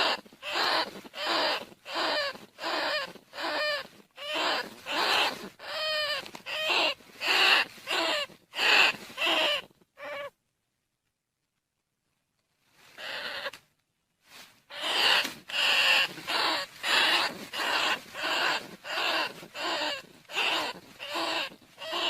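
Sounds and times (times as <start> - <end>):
rats squealing: 0.0 - 10.3, 13.0 - 13.6, 14.7 - 22.0.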